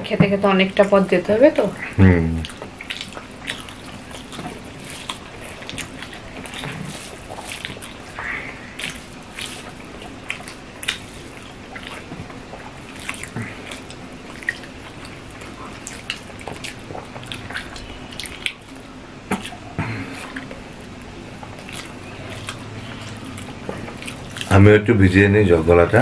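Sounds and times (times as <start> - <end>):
chewing and lip smacks: 2.4 - 24.5.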